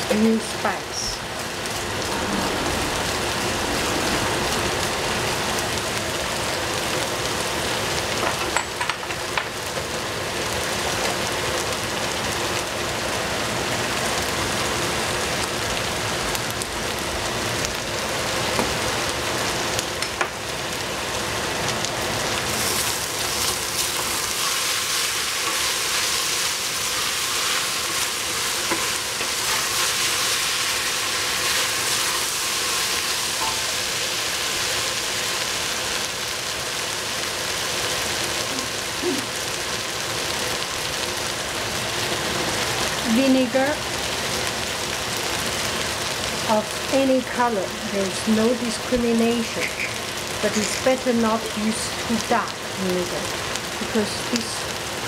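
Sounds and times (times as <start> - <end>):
vegetables sizzling in a pot: 0.0 - 55.0.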